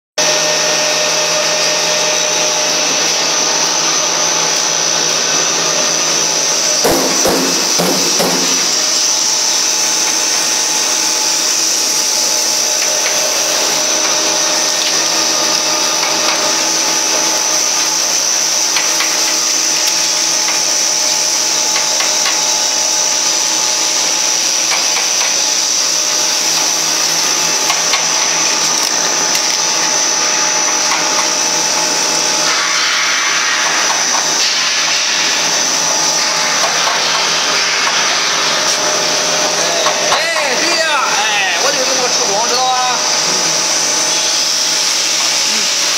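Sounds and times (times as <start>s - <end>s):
high-pitched whine: 0.2s - 45.9s
machine motor running: 0.2s - 45.9s.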